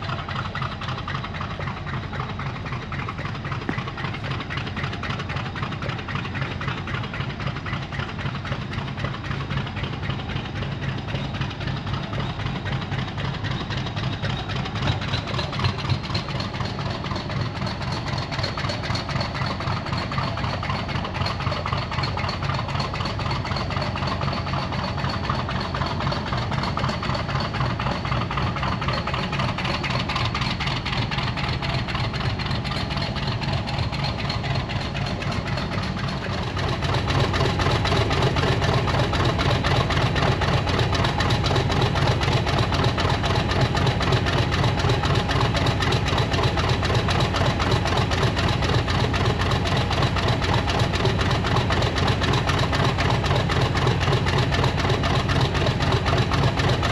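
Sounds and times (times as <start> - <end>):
locomotive engine idling: 0.0 - 56.9.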